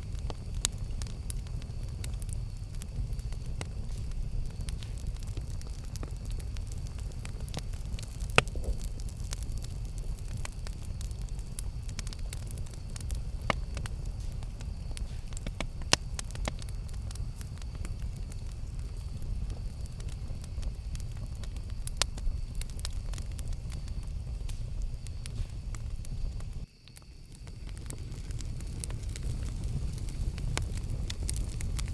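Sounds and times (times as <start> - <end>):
campfire rumble: 0.0 - 31.9
fire crackles and pops: 0.0 - 31.9.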